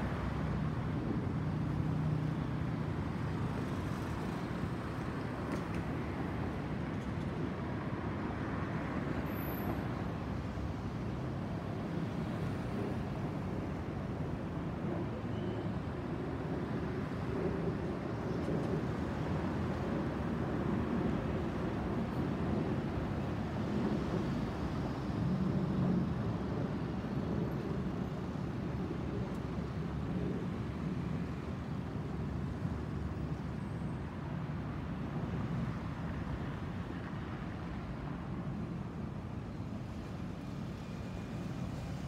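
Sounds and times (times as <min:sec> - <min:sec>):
jet engines rumbling overhead: 0:00.0 - 0:42.0.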